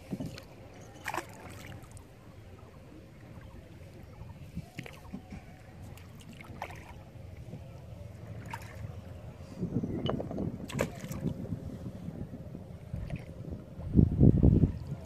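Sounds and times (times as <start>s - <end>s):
water lapping and paddling: 0.0s - 15.0s.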